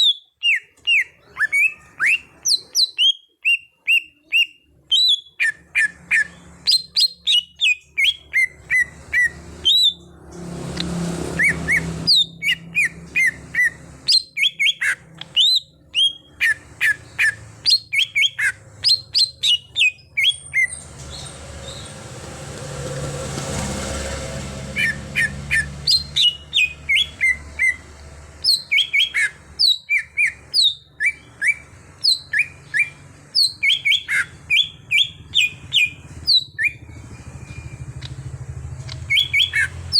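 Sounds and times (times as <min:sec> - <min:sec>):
bird singing sharp chirps: 0:00.0 - 0:22.2, 0:24.7 - 0:39.9.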